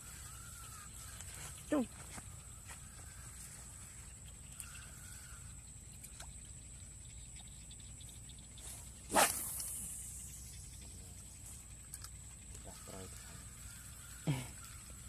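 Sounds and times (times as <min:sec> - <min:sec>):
small ticks: 0:00.0 - 0:15.0.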